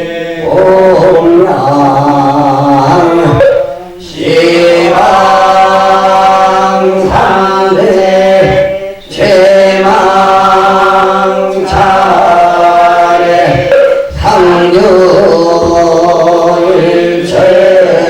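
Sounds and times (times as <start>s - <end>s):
liturgical chanting: 0.0s - 18.0s.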